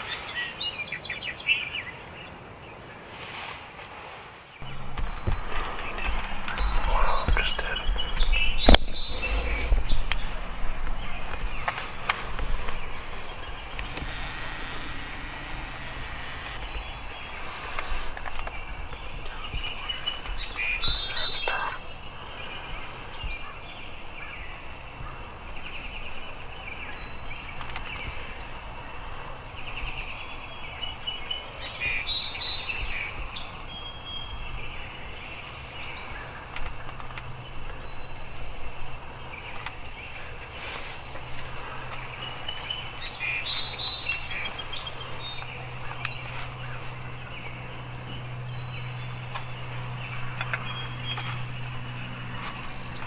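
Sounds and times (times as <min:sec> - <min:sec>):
birds singing: 0:00.0 - 0:03.0, 0:04.6 - 0:53.0
low steady hum: 0:04.6 - 0:53.0.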